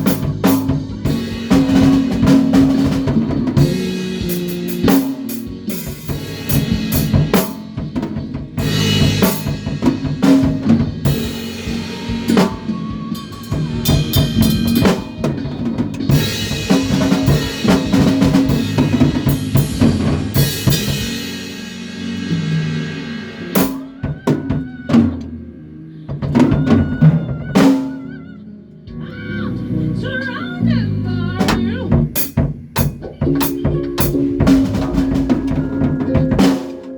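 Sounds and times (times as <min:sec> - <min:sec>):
drum kit: 0:00.0 - 0:28.2, 0:31.1 - 0:36.9
bass: 0:00.0 - 0:36.9.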